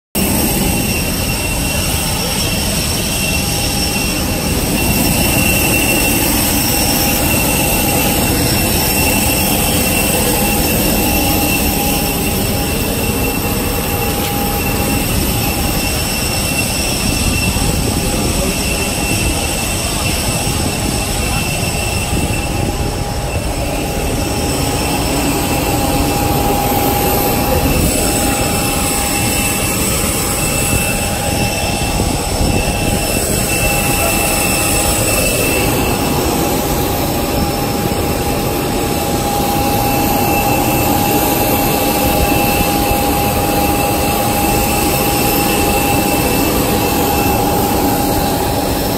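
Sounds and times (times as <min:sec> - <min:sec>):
jet engines running: 0:00.2 - 0:48.9.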